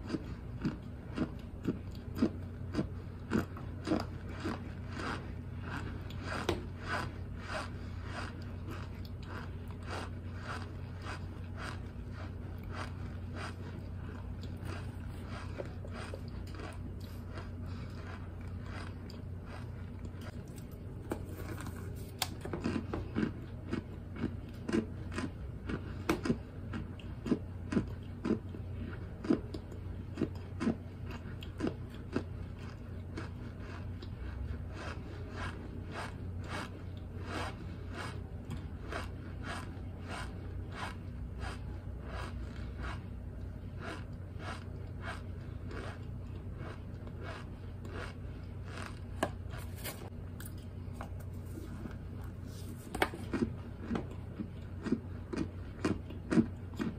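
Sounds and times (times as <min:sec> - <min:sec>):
crunchy chewing: 0:00.0 - 0:56.9.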